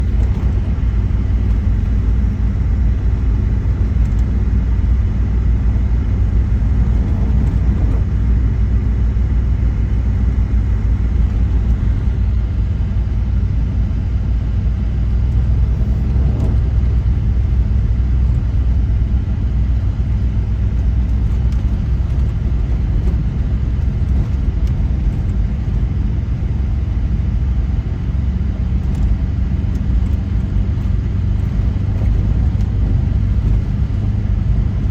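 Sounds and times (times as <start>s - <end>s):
vehicle engine and tyres rumbling: 0.0s - 34.9s.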